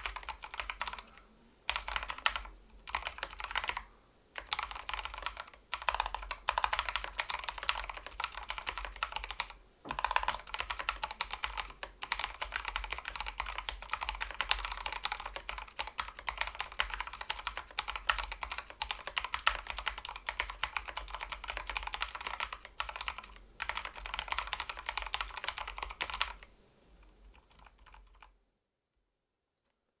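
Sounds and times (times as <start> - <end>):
typing on mechanical keyboard: 0.0 - 3.8, 4.4 - 26.5, 27.3 - 28.3.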